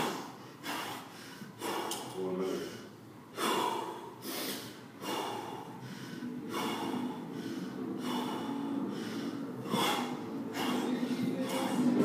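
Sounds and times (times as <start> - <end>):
man breathing heavily: 0.0 - 12.0.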